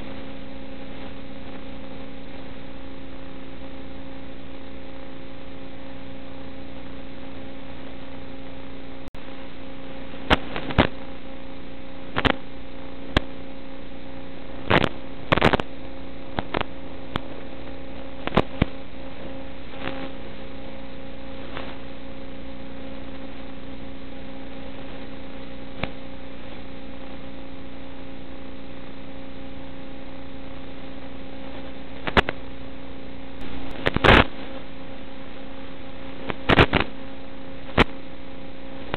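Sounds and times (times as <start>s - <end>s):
static crackle bursts: 0.0s - 38.9s
steady electrical buzz: 0.0s - 38.9s.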